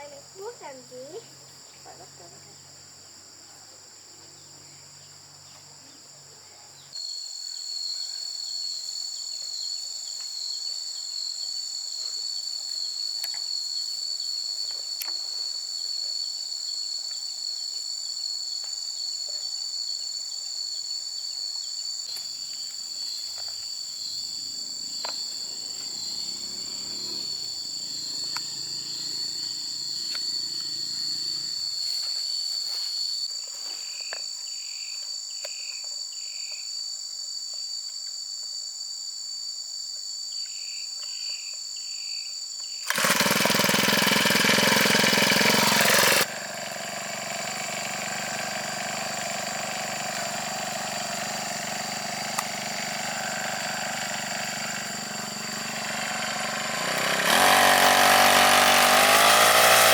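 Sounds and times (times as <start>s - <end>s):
insects chirring: 0.0s - 36.8s, 40.3s - 59.9s.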